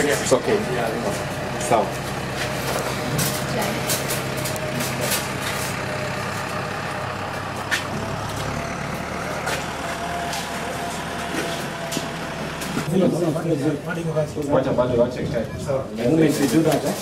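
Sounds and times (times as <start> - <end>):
motor humming with high whine: 0.0 - 13.9.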